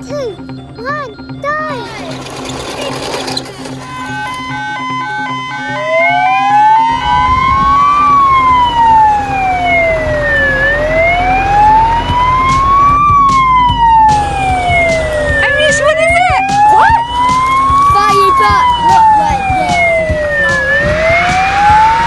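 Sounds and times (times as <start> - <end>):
low engine rumble: 1.9 - 22.0
musical jingle: 3.6 - 22.0
fire engine siren wailing: 3.7 - 22.0.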